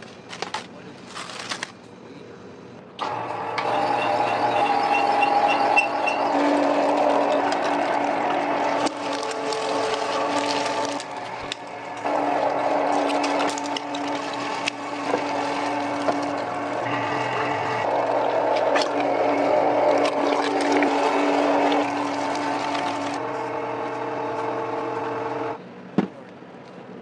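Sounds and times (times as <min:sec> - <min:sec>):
meat grinder running: 0:03.0 - 0:25.6.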